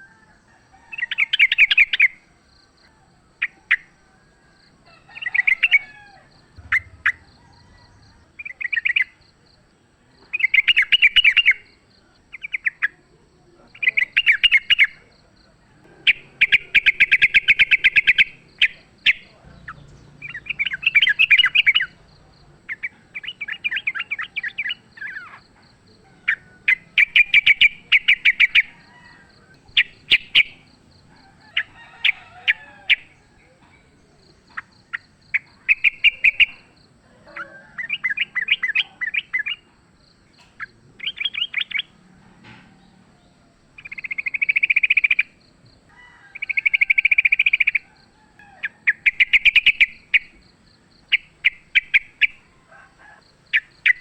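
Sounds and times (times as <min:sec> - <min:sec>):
bulbul chattering song: 0:00.9 - 0:02.3, 0:05.1 - 0:42.1, 0:43.7 - 0:45.4, 0:46.3 - 0:47.9, 0:48.5 - 0:52.7, 0:53.3 - 0:54.0.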